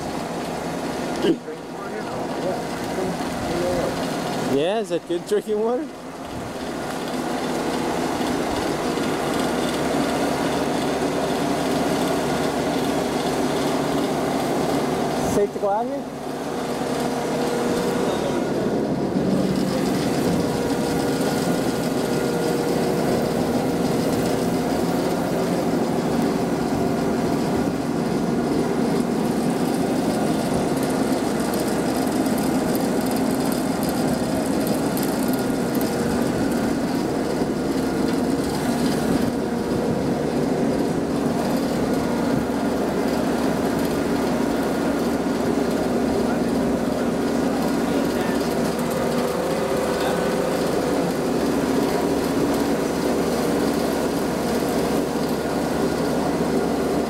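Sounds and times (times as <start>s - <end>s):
engine humming steadily: 0.0s - 57.0s.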